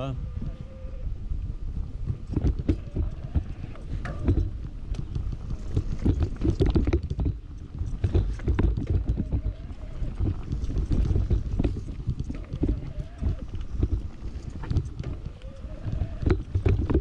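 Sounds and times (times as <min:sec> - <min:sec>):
bike tyres rumbling on dirt: 0:01.7 - 0:17.0
bike clattering over bumps: 0:02.2 - 0:15.4, 0:16.0 - 0:17.0.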